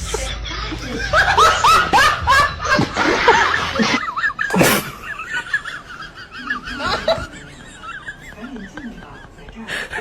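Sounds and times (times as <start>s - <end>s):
person giggling: 0.0s - 10.0s.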